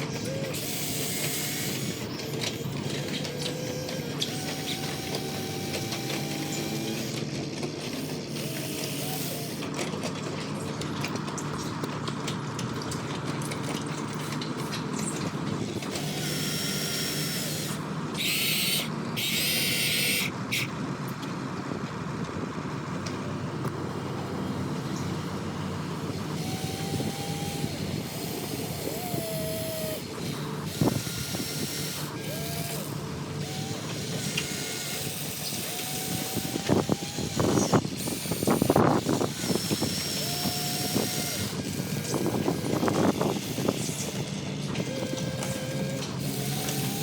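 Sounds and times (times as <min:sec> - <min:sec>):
electric motor and pump whine: 0:00.0 - 0:21.1, 0:22.2 - 0:47.0.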